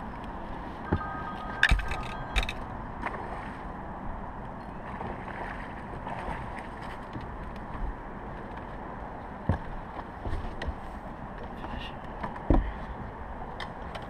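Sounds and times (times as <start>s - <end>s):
water noise: 0.0s - 11.6s
wind: 0.0s - 14.0s.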